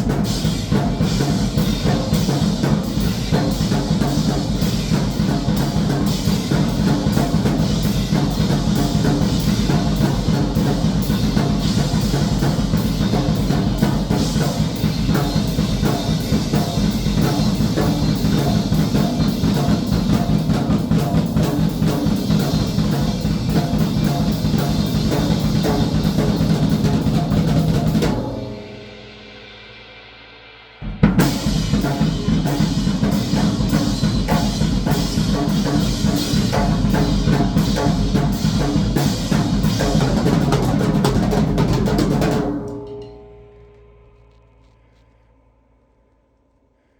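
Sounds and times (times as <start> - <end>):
drum kit played fast: 0.0 - 29.8, 30.8 - 43.5.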